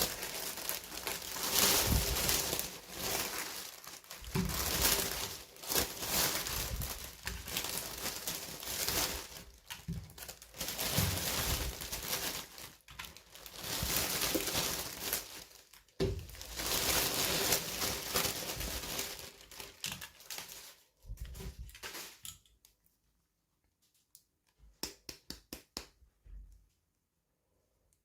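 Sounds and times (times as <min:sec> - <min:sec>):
plastic packaging crinkling and tearing: 0:00.0 - 0:22.7.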